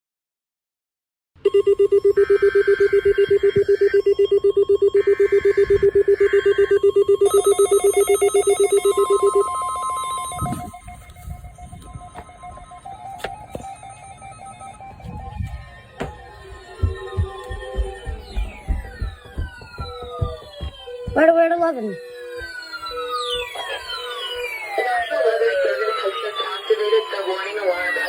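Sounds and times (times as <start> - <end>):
weather radio alarm beeping: 1.4 - 28.0
faint steady tones: 1.5 - 28.0
screechy digital header tones: 1.5 - 28.0.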